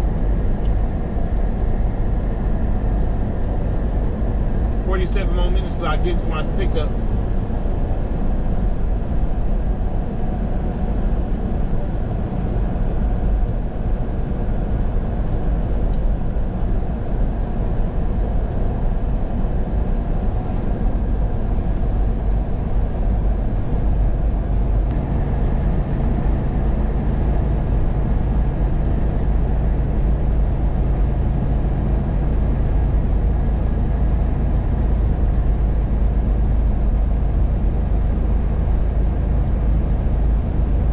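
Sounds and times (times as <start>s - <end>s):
road noise: 0.0s - 40.9s
truck engine hum: 0.0s - 40.9s.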